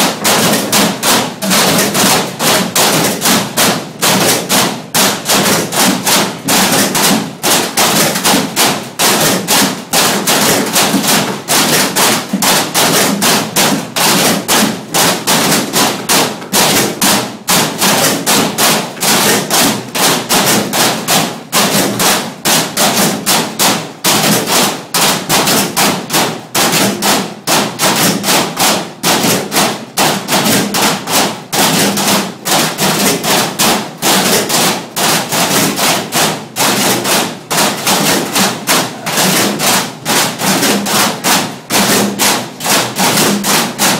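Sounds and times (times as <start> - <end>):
metal trash cans drummed: 0.0 - 43.9.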